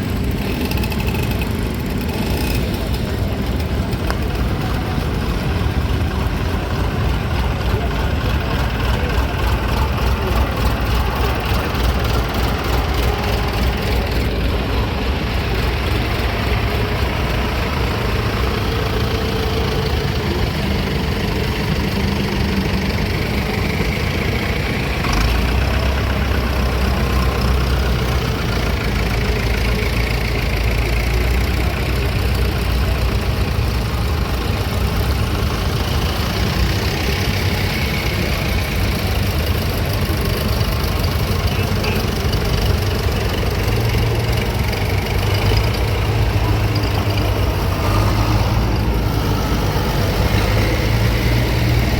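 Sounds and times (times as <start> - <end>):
old engine running: 0.0 - 51.9.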